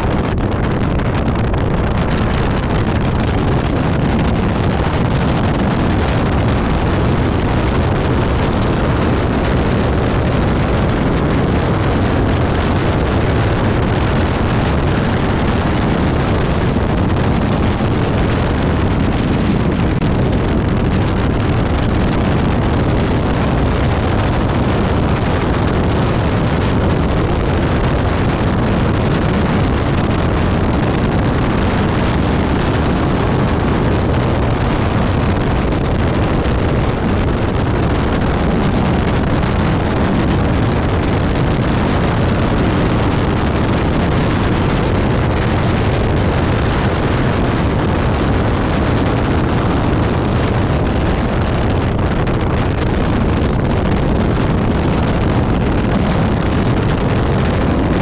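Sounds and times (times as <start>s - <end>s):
car engine running hard: 0.0s - 58.0s
wind buffeting on microphone: 0.0s - 58.0s.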